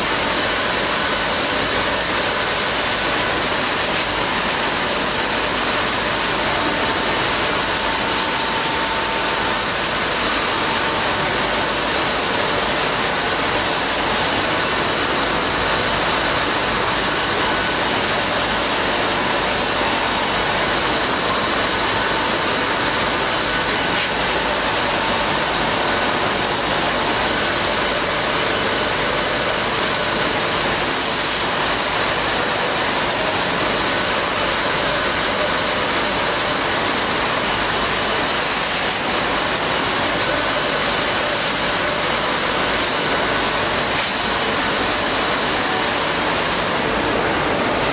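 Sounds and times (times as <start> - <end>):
drilling machine rushing air noise: 0.0 - 47.9.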